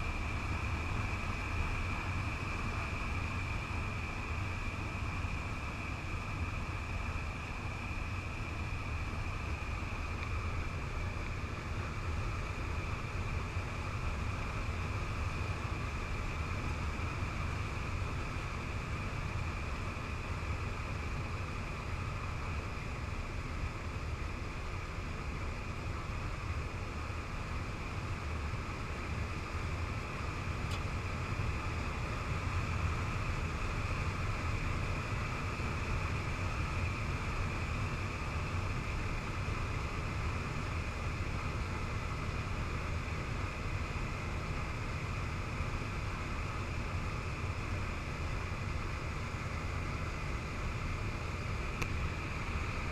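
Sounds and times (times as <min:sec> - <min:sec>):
high engine whine: 0:00.0 - 0:52.9
turboprop engine drone: 0:00.0 - 0:52.9.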